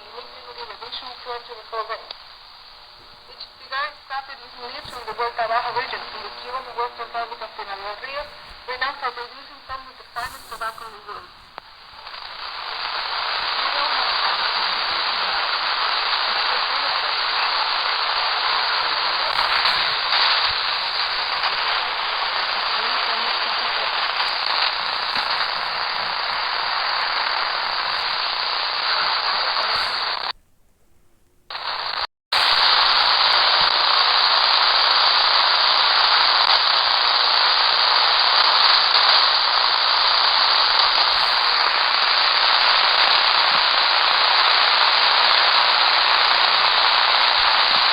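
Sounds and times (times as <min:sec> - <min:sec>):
radio static hiss and crackle: 0:00.0 - 0:47.9.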